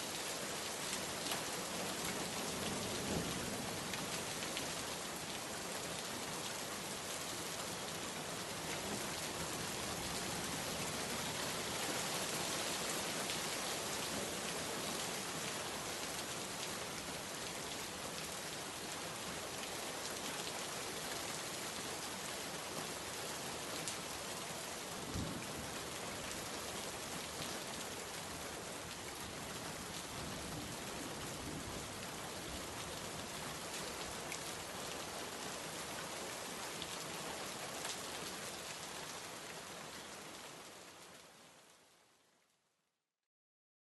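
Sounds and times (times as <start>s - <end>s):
heavy rain falling: 0.0s - 41.7s.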